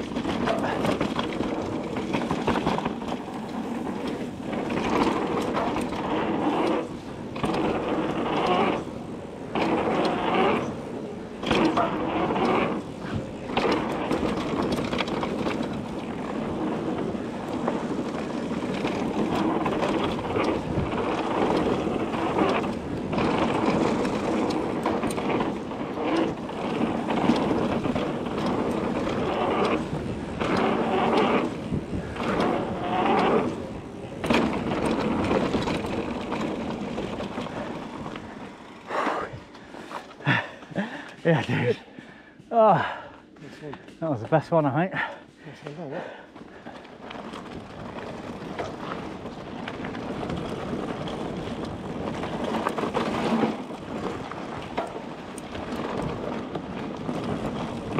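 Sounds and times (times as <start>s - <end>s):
wind noise: 0.0s - 42.0s, 46.0s - 57.9s
bike tyres on dirt: 0.0s - 57.9s.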